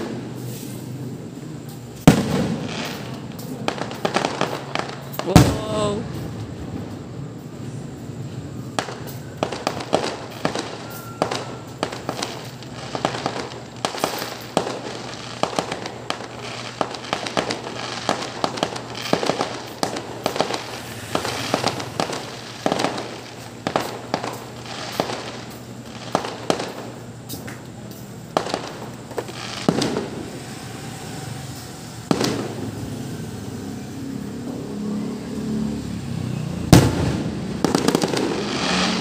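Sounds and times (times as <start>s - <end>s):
fireworks bursting and crackling: 0.0s - 39.0s.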